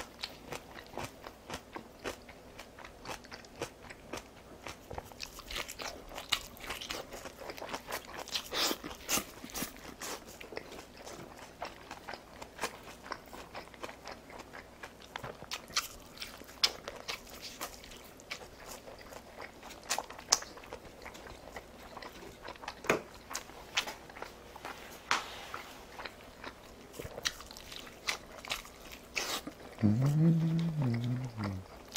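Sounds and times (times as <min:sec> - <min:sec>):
biting and chewing food: 0:00.0 - 0:24.8, 0:25.9 - 0:31.9.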